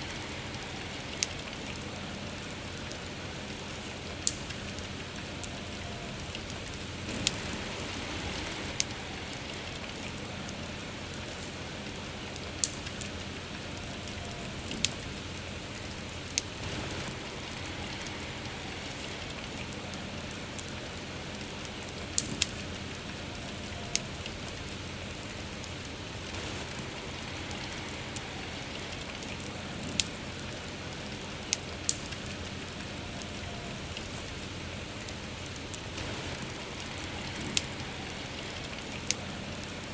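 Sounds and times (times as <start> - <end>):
rain hissing: 0.0 - 39.9
wood fire crackling and popping: 0.0 - 39.9.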